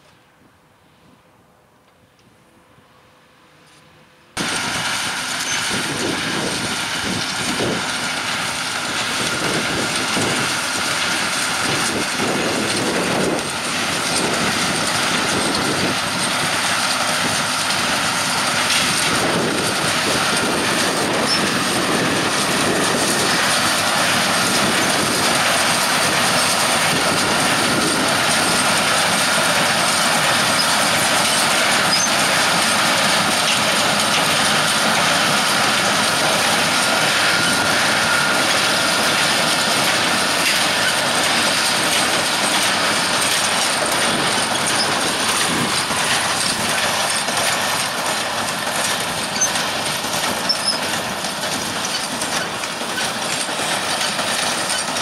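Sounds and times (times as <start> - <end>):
baler mechanical clatter: 4.4 - 55.0
tractor engine running: 4.4 - 55.0.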